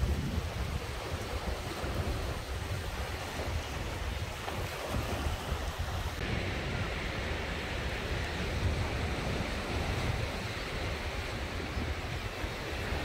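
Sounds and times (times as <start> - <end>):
surf breaking on rocks: 0.0 - 13.0
wind rumbling on microphone: 0.0 - 13.0.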